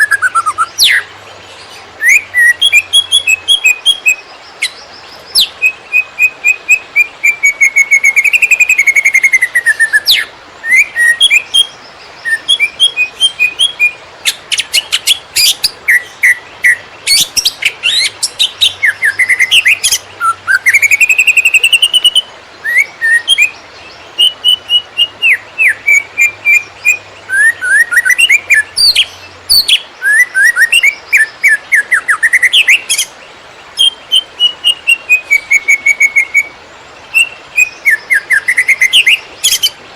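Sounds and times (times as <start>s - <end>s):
bird singing fast whistles and trills: 0.0s - 33.2s, 33.8s - 39.8s.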